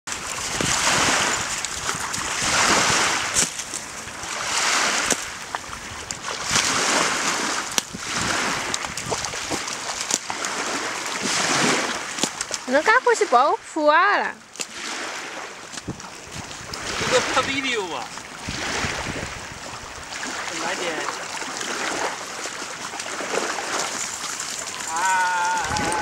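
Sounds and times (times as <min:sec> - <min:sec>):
dogs splashing in water: 0:00.1 - 0:13.4, 0:14.5 - 0:17.5, 0:18.2 - 0:26.0
sharp splashes: 0:00.1 - 0:26.0
waves lapping on shore: 0:00.1 - 0:26.0.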